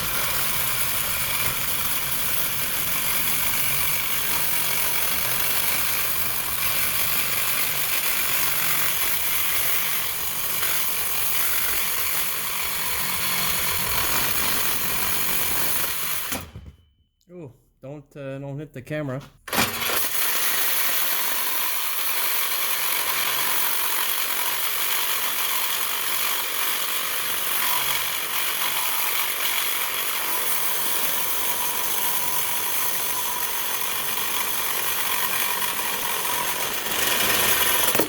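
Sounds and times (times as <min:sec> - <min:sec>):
reciprocating saw cutting metal pipe: 0:00.0 - 0:16.4, 0:19.7 - 0:38.0.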